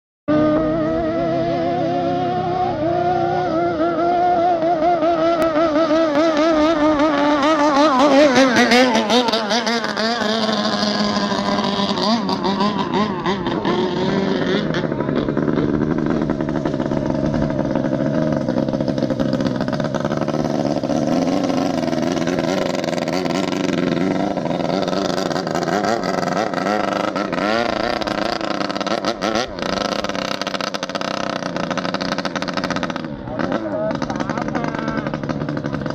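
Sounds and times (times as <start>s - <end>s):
motorboat engine running hard: 0.3s - 35.9s.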